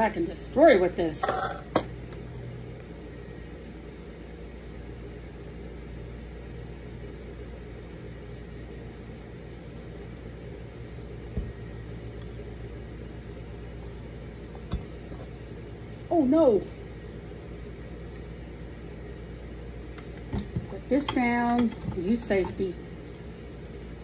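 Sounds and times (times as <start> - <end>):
low mechanical hum with hiss: 0.0 - 24.0.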